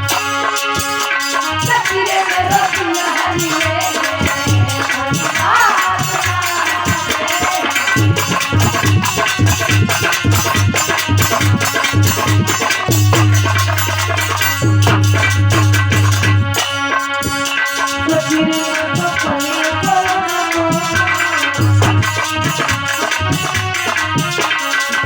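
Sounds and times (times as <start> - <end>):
devotional music: 0.0 - 25.0
hand drum beat: 0.0 - 25.0
held melody line: 0.0 - 25.0
shaker percussion: 0.0 - 25.0.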